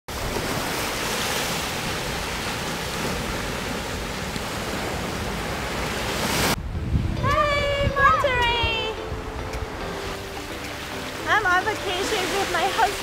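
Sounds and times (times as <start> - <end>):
waves breaking on a shore: 0.1 - 13.0.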